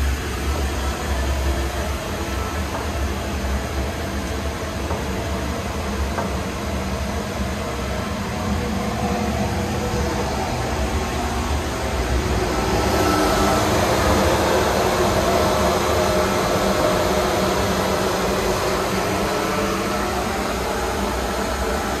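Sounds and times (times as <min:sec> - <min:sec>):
blower and burner flame: 0:00.0 - 0:22.0.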